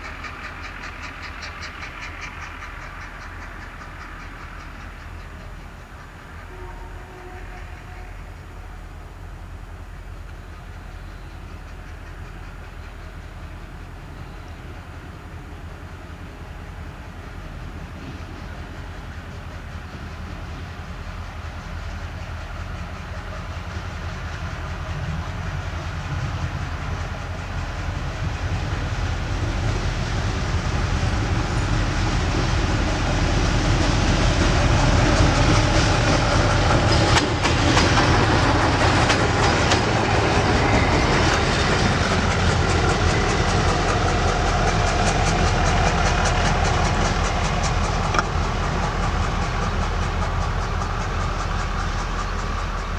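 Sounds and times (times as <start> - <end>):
freight train rumble: 0.0 - 52.9
wheels clicking over rail joints: 10.2 - 52.9.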